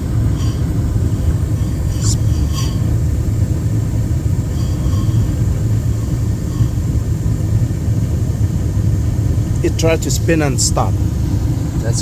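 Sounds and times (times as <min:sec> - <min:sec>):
furnace rumbling: 0:00.0 - 0:12.0.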